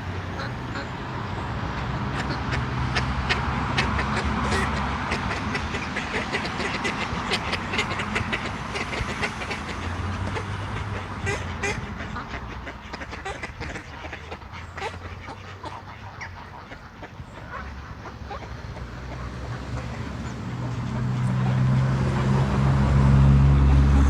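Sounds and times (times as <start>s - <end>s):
ducks quacking: 0.0s - 23.7s
low engine-like drone: 0.0s - 24.0s.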